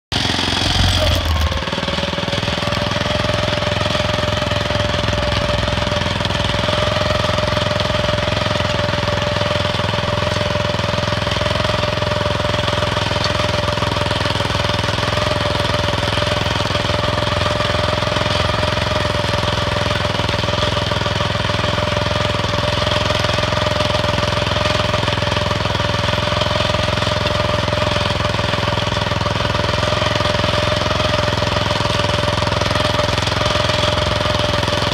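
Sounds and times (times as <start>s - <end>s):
tractor engine under load: 0.1s - 34.9s.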